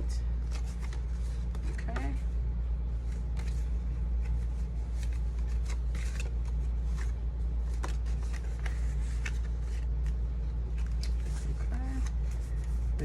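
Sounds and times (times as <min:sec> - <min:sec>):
steady low hum: 0:00.0 - 0:13.0
paper rustling: 0:00.4 - 0:02.2, 0:03.0 - 0:13.0.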